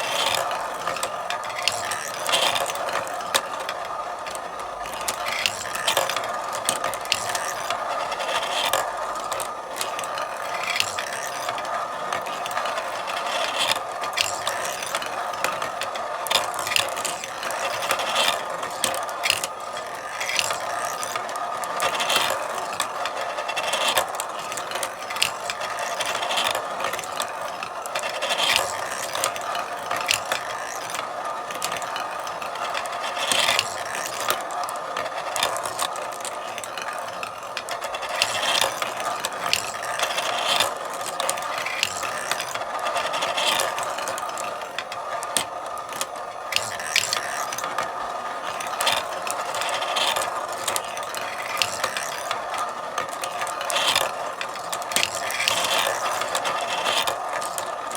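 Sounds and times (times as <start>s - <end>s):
marbles clicking and clacking: 0.0s - 57.9s
marbles rolling on a marble run: 0.0s - 57.9s.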